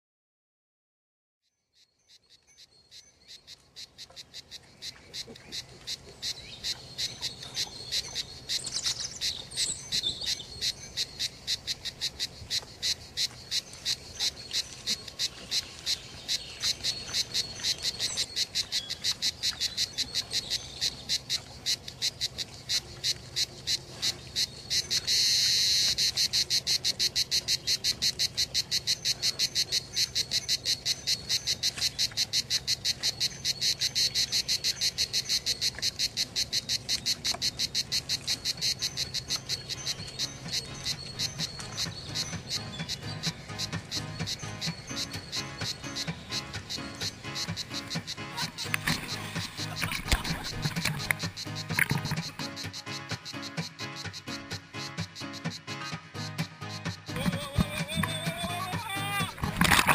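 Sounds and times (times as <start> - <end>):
cicadas chirping: 1.7 - 59.9
continuous high buzz: 3.5 - 53.8.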